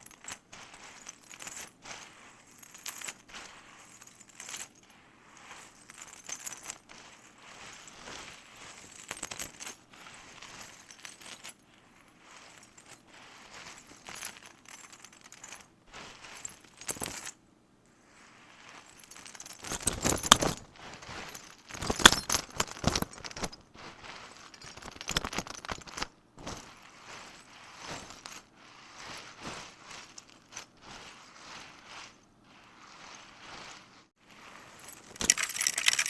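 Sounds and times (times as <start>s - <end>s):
small hard objects clinking: 0.0s - 17.4s, 18.1s - 36.0s.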